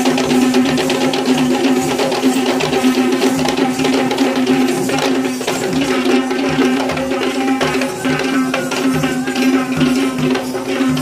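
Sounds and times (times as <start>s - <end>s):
quick drum strokes: 0.0s - 11.0s.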